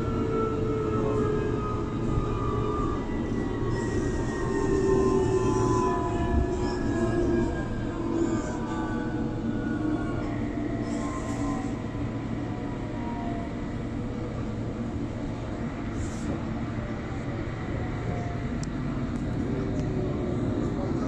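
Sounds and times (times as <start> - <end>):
faint train whine: 0.0 - 21.0
train wheels rumbling on track: 0.0 - 21.0.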